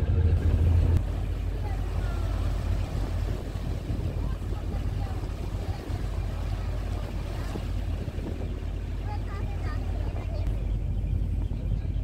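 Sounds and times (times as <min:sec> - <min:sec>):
boat engine rumble: 0:00.0 - 0:12.0
propeller wash churning water: 0:00.0 - 0:12.0.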